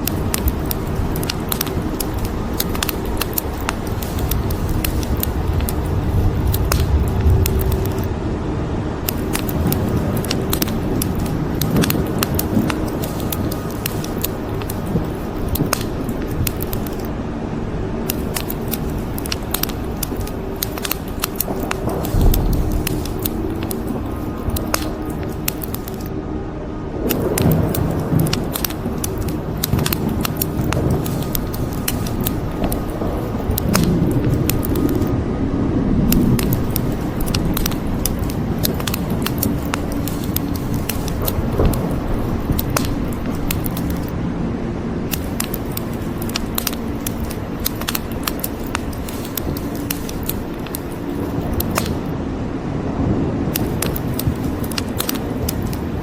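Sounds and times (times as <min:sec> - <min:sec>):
rain hissing: 0:00.0 - 0:08.1, 0:09.0 - 0:17.1, 0:18.0 - 0:26.1, 0:27.1 - 0:35.2, 0:35.9 - 0:44.2, 0:45.1 - 0:52.1, 0:53.5 - 0:56.0
wood fire crackling: 0:00.0 - 0:08.1, 0:09.0 - 0:17.1, 0:18.0 - 0:26.1, 0:27.0 - 0:35.2, 0:35.9 - 0:44.2, 0:45.0 - 0:52.2, 0:53.4 - 0:56.0.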